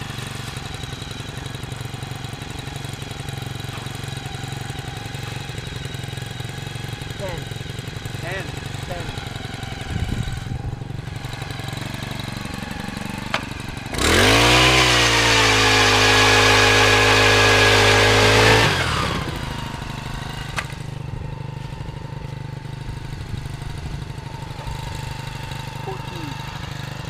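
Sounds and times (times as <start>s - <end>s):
ice auger engine revving: 0.0s - 27.0s.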